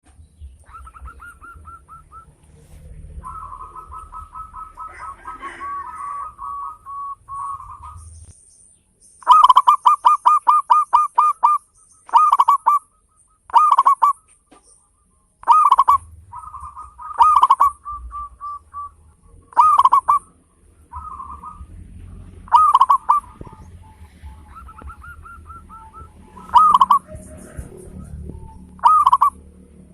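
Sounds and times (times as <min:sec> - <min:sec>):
dove cooing in staccato phrases: 0:00.5 - 0:02.4, 0:03.0 - 0:08.2, 0:09.2 - 0:29.9.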